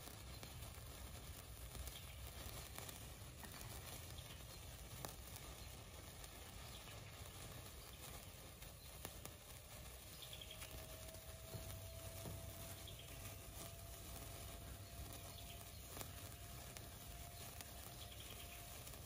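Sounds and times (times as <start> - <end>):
sparkler fizzing and crackling: 0.0 - 19.0.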